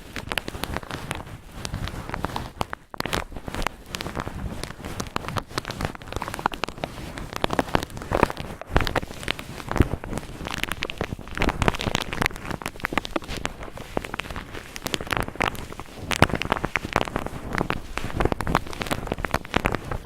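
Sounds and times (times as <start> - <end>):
cotton ball rubbed scratchy crackle: 0.0 - 20.0.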